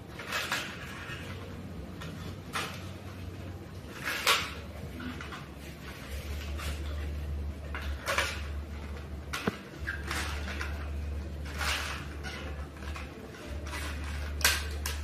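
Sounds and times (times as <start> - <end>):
low steady hum: 0.0 - 15.0
plastic crackling: 0.0 - 15.0.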